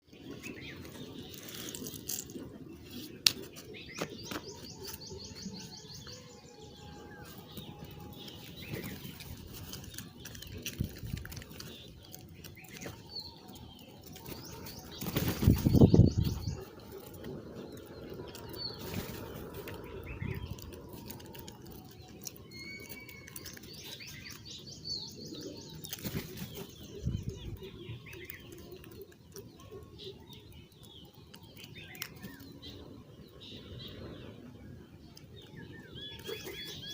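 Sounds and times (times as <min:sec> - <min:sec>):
birds chirping and trilling: 0:00.0 - 0:36.9
steady outdoor background: 0:00.0 - 0:36.9.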